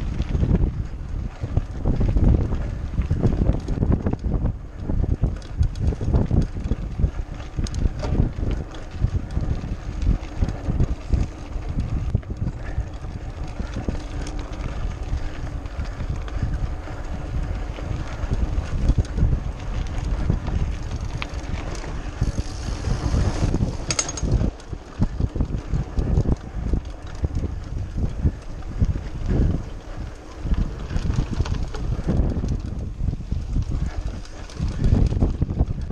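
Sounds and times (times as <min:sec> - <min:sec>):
bike rattling and knocking: 0:00.0 - 0:35.9
wind buffeting microphone: 0:00.0 - 0:35.9.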